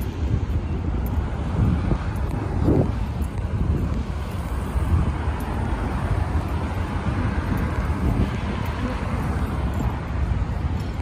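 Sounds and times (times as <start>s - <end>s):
cars driving by: 0.0s - 11.0s
wind buffeting microphone: 0.0s - 11.0s.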